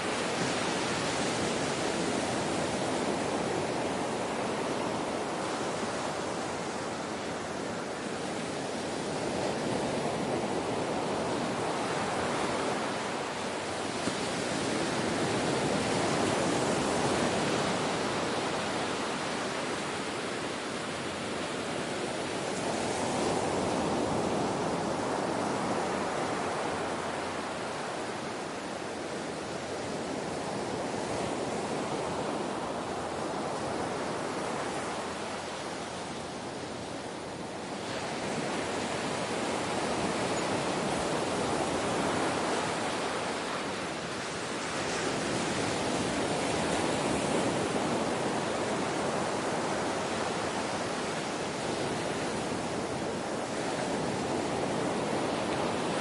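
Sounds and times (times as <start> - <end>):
ocean waves washing onto shore: 0.0 - 56.0.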